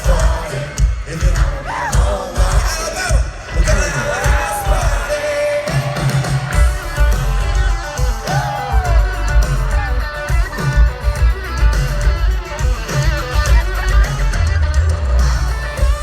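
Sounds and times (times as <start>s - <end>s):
drum hits: 0.0s - 16.0s
live band music with guitar: 0.0s - 16.0s.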